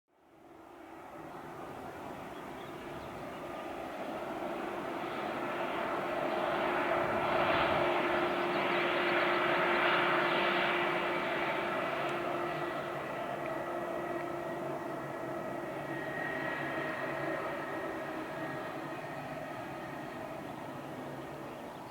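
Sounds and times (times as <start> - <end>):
jet engine roar: 0.5 - 21.9.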